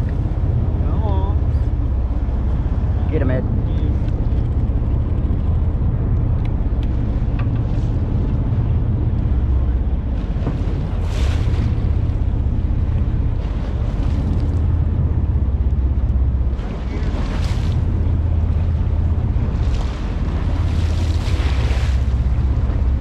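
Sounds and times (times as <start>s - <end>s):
boat engine idling: 0.0s - 23.0s
water washing against hull: 0.0s - 23.0s.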